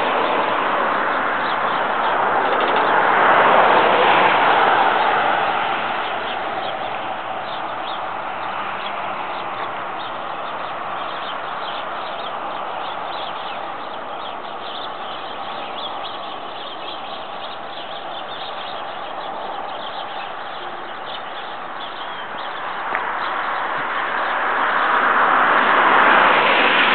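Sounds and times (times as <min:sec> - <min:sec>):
small birds chirping: 0:00.0 - 0:25.3.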